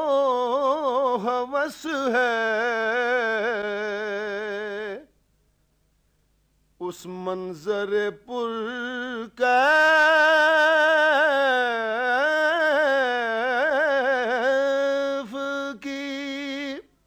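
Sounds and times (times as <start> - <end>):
man singing: 0.0 - 5.2, 6.8 - 16.9.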